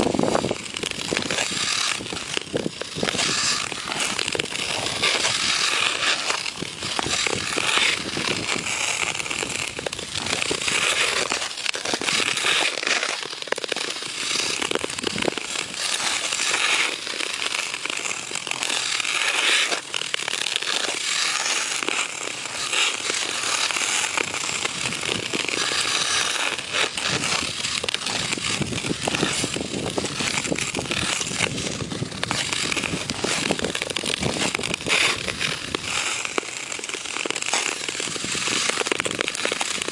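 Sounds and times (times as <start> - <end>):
skate blades scraping ice: 0.0 - 39.9.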